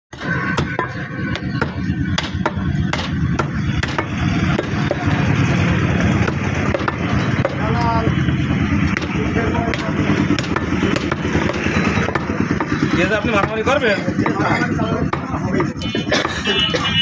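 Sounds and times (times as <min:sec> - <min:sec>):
meat being chopped: 0:00.1 - 0:08.0, 0:08.6 - 0:14.4, 0:15.0 - 0:16.4.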